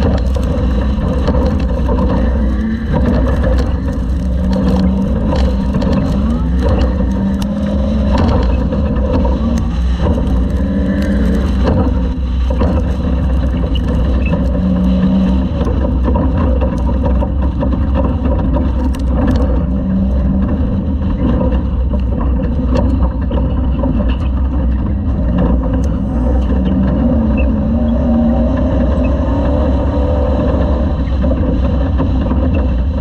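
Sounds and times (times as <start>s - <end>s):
heavy steady rumble: 0.0s - 33.0s
knocks and rattles: 0.0s - 33.0s
race truck engine revving: 0.0s - 33.0s.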